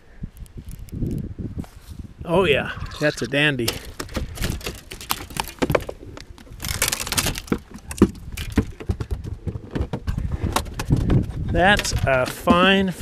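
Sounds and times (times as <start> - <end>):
fishing gear clicks and knocks: 0.3 - 1.2, 2.8 - 12.8.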